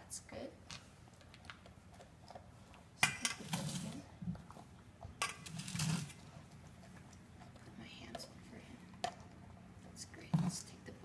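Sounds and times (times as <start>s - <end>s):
puppy eating rustle: 0.8s - 11.0s.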